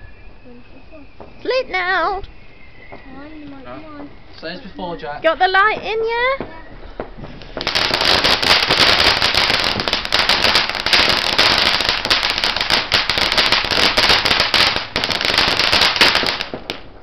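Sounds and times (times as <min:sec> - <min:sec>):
firework crackling pops: 0:00.0 - 0:17.0
firework hiss: 0:00.0 - 0:17.0.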